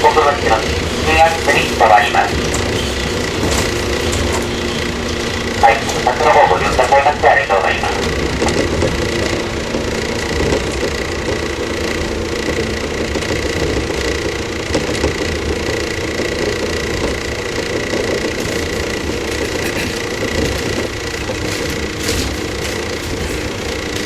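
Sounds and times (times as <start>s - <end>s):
thin steady whine: 0.0s - 24.0s
train motor hum: 0.0s - 24.0s
wheel-on-rail rumble: 0.0s - 24.0s.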